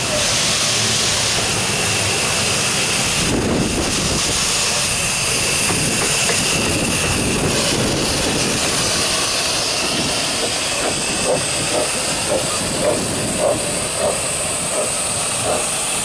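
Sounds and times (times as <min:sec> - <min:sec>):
steam hissing: 0:00.0 - 0:16.0
train coaches clacking: 0:00.0 - 0:16.0.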